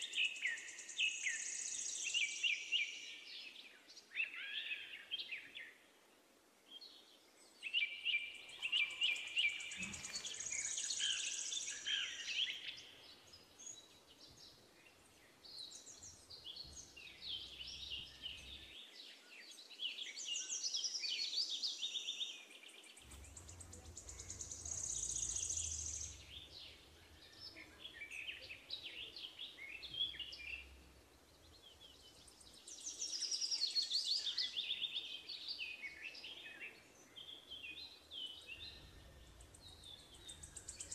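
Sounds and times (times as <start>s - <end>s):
birds chirping and trilling: 6.7s - 40.9s.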